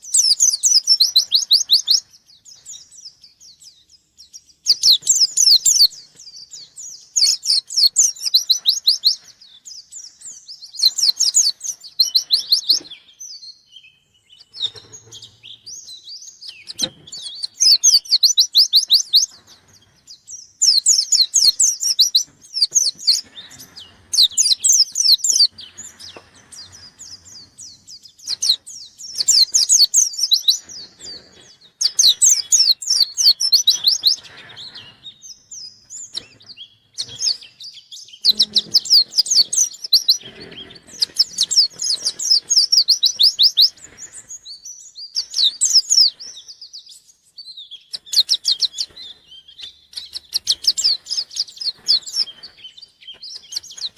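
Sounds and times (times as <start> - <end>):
bird chirping trills: 0.0 - 53.9.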